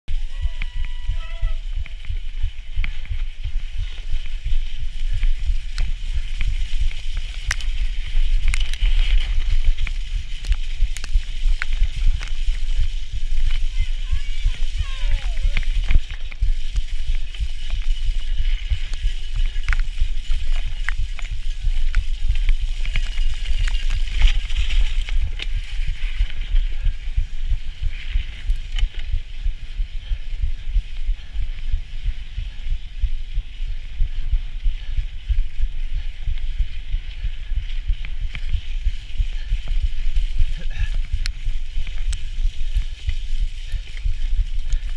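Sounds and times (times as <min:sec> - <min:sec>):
bicycle clicks and rattles: 0:00.1 - 0:44.9
wind and jolting rumble: 0:00.1 - 0:44.9.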